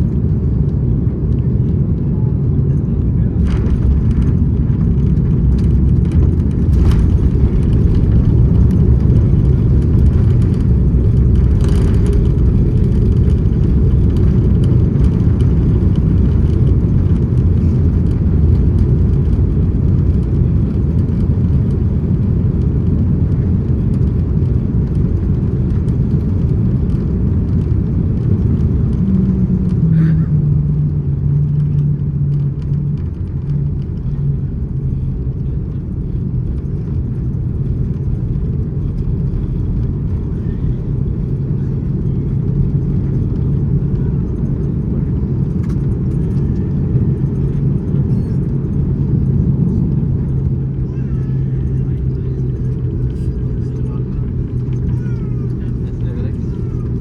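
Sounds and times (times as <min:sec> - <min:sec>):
airplane cabin rumble: 0:00.0 - 0:57.0
engine hum: 0:00.0 - 0:57.0.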